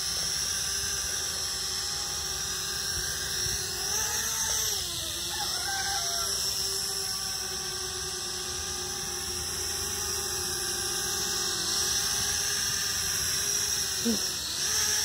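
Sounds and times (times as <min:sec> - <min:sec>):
toy drone propellers whining: 0:00.0 - 0:15.0.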